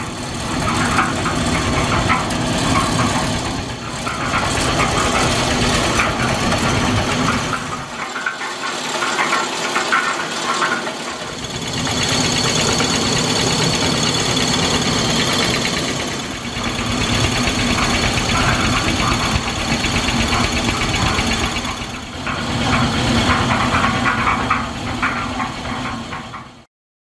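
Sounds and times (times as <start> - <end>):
small engine running: 0.0 - 26.7.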